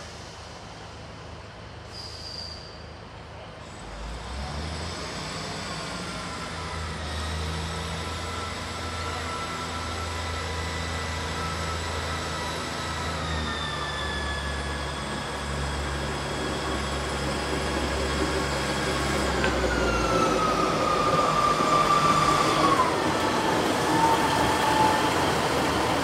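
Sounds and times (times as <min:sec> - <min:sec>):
diesel train engine drone: 0:00.0 - 0:26.0.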